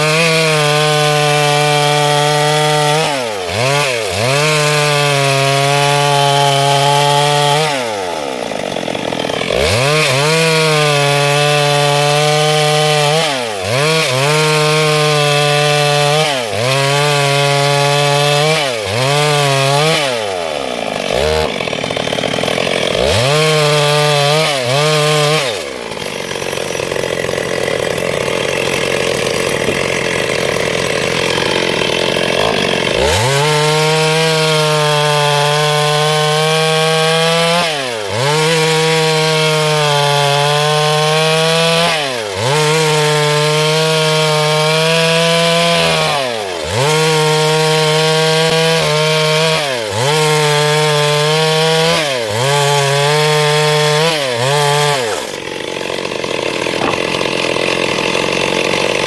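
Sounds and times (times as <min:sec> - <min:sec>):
chainsaw cutting through wood: 0:00.0 - 0:59.0
chainsaw running at high revs: 0:00.0 - 0:59.0.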